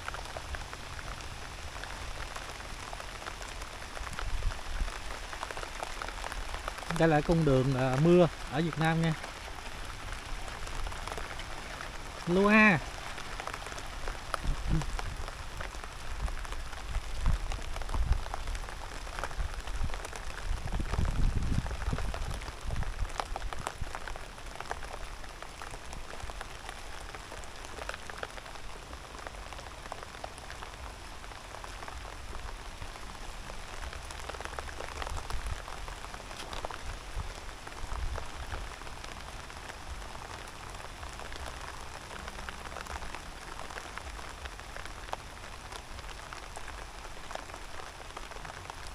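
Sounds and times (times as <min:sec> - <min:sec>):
rain falling: 0:00.0 - 0:48.9.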